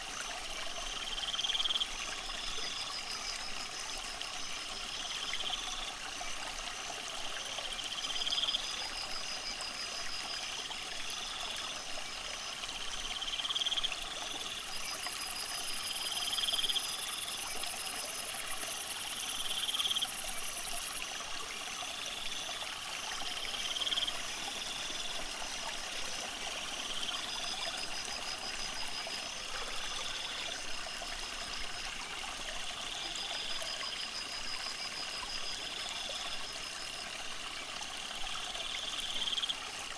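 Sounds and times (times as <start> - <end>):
trickle of running water: 0.0 - 39.9
insects chirping: 0.2 - 39.8.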